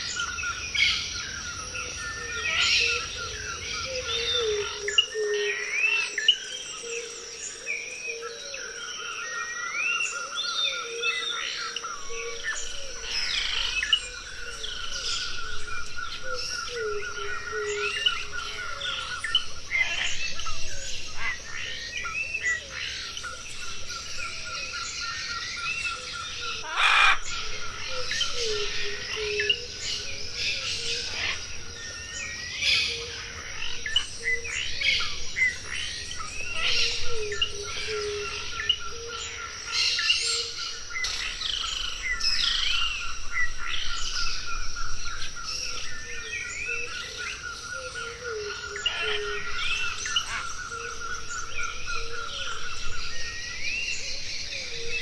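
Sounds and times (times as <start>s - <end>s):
birds chirping and calling: 0.0s - 55.0s
high insect drone: 0.0s - 55.0s.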